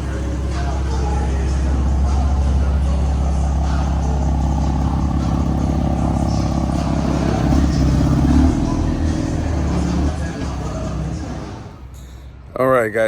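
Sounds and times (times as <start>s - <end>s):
car engine droning: 0.0s - 12.4s.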